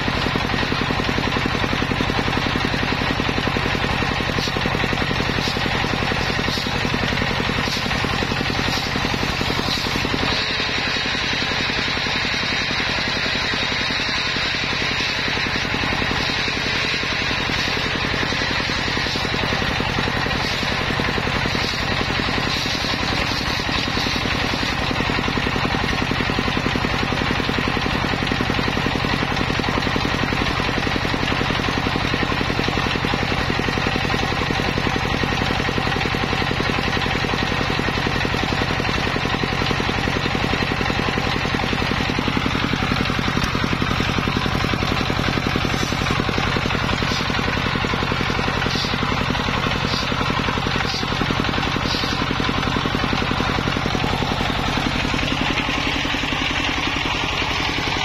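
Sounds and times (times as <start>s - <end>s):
table saw droning: 0.0s - 35.1s, 37.5s - 58.0s.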